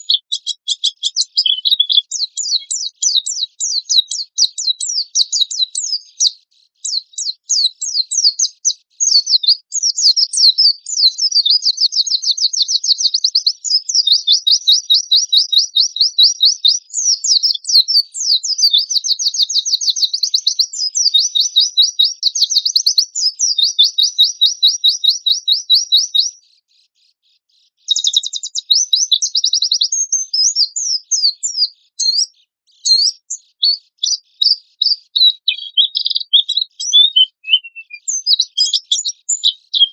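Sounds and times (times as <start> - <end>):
songbird trilling and chattering: 0.0 - 26.4, 27.8 - 39.9.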